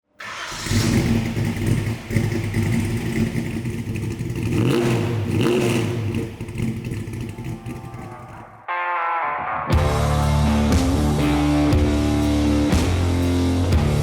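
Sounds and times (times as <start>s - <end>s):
car engine idling and revving: 0.2s - 8.6s, 9.8s - 14.0s.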